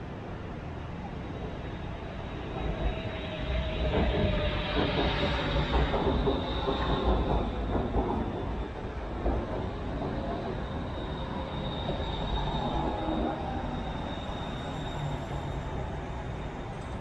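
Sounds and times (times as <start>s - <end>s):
electric train rumbling and whining: 0.0s - 17.0s.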